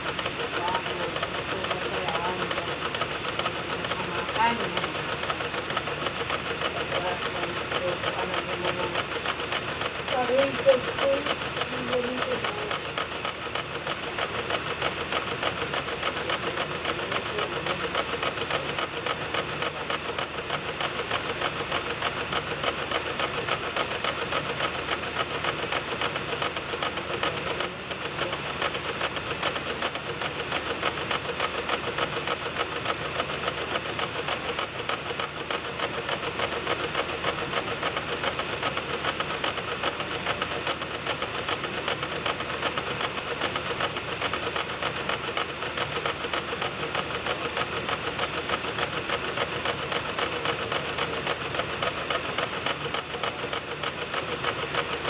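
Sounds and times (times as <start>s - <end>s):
dvd drive clicking: 0.0s - 55.0s
spinning disc whir: 0.0s - 55.0s.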